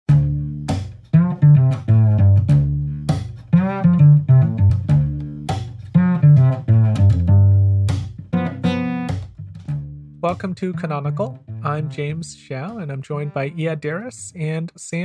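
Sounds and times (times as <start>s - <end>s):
plucked string music: 0.1s - 14.2s.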